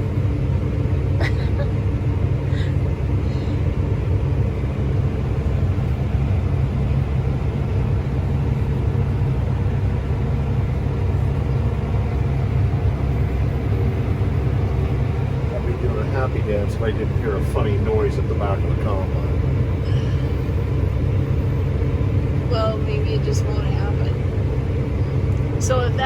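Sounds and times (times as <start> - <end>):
combine harvester rumble: 0.0 - 26.0.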